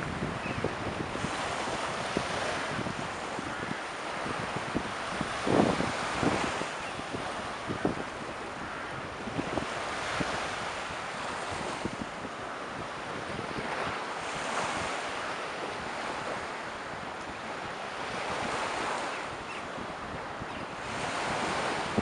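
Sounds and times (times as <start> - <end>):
sea waves washing: 0.0 - 22.0
wind on microphone: 0.0 - 22.0.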